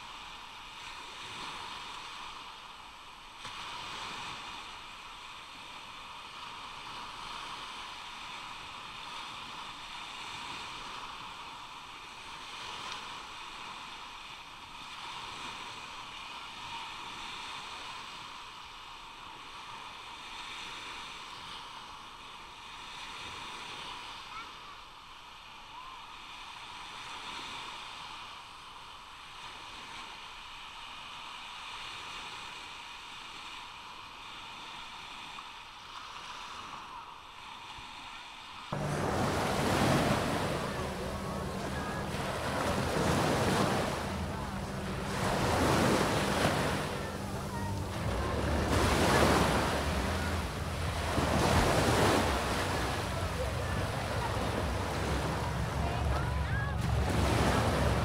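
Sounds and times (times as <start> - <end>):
sea waves washing onto sand: 0.0 - 58.0.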